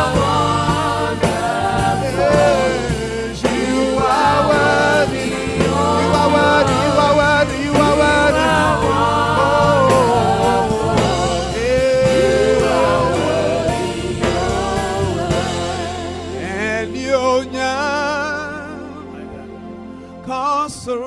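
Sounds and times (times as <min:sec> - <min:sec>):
live band playing: 0:00.0 - 0:16.9
drums: 0:00.0 - 0:17.0
man singing gospel: 0:00.0 - 0:21.0.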